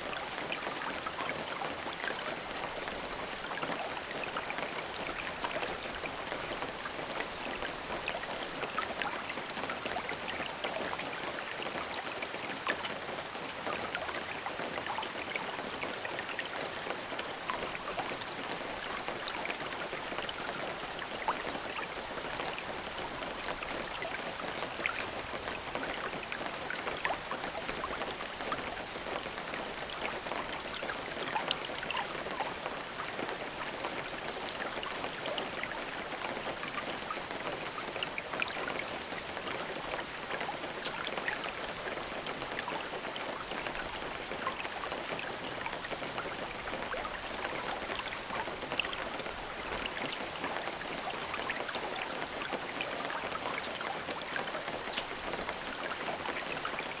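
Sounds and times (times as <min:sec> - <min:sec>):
raindrops ticking on a surface: 0:00.0 - 0:57.0
steady rain hiss: 0:00.0 - 0:57.0.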